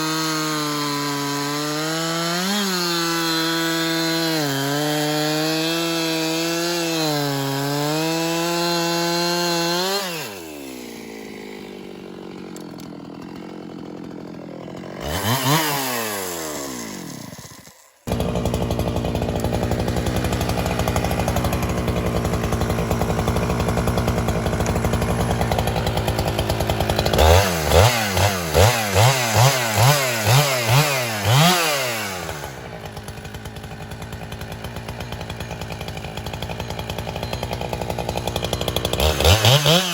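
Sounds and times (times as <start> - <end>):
chainsaw cutting and idling: 0.0 - 39.9
chainsaw throttle blips: 0.0 - 39.9.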